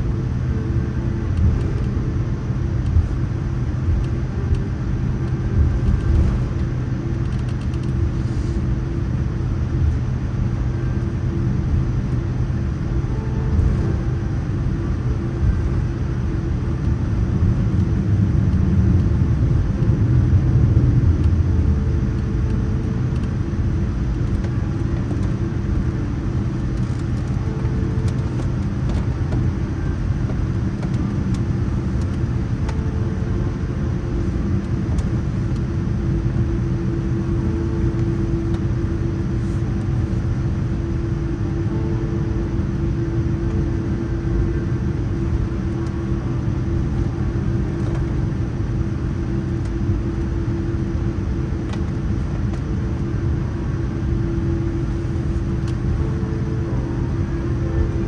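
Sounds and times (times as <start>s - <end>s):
faint steady hum: 0.0s - 58.0s
idling engines and rolling wheels: 0.0s - 58.0s.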